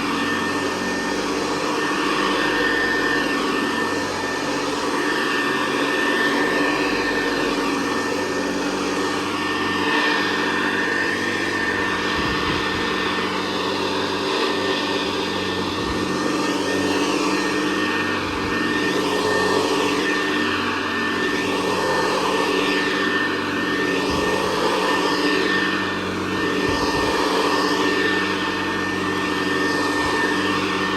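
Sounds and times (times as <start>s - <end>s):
vacuum cleaner whining: 0.0s - 30.9s.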